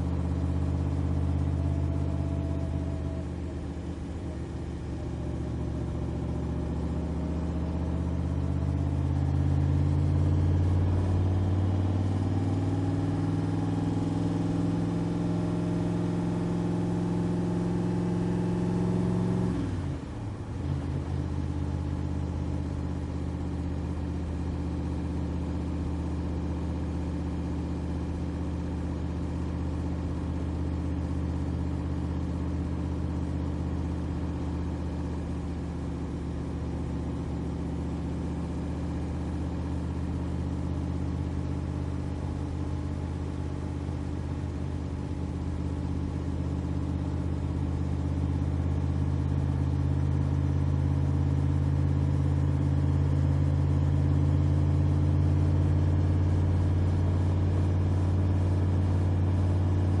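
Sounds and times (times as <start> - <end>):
car engine droning: 0.0 - 60.0.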